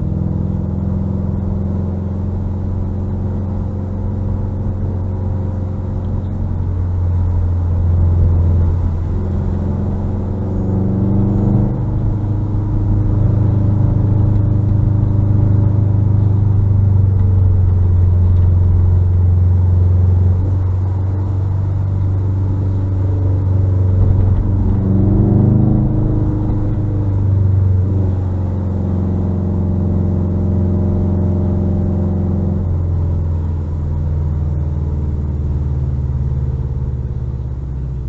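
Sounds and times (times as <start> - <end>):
car exhaust drone: 0.0 - 38.0.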